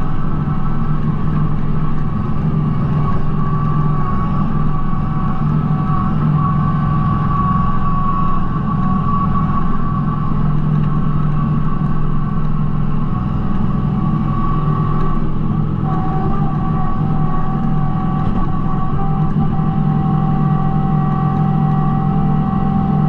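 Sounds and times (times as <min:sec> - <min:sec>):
diesel tractor engine running: 0:00.0 - 0:23.0
lower mechanical whine: 0:00.0 - 0:23.0
mechanical whine: 0:00.0 - 0:23.0.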